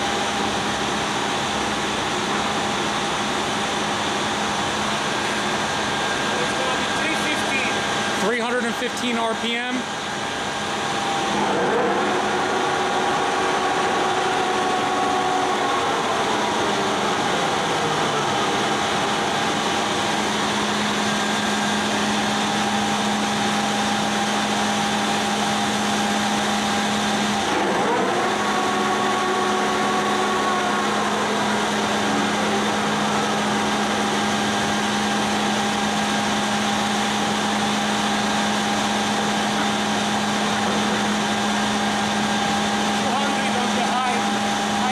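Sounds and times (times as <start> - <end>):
lathe motor hum: 0.0 - 44.9.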